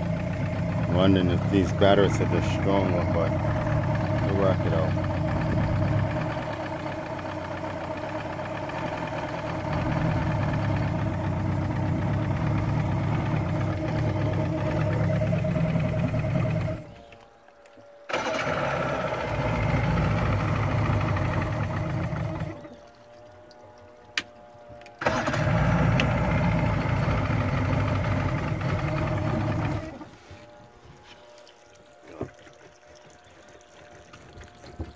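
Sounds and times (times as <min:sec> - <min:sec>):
outboard motor running: 0:00.0 - 0:34.9.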